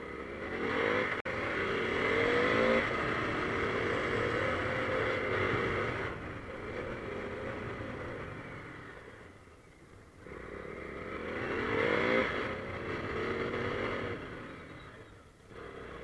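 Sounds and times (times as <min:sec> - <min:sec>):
motorcycle engine revving: 0:00.0 - 0:09.4, 0:10.2 - 0:16.0.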